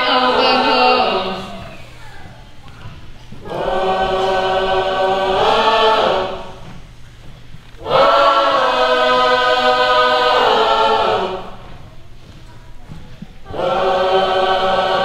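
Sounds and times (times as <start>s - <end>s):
choir singing held chords: 0.0s - 2.5s, 3.3s - 12.3s, 13.4s - 15.0s.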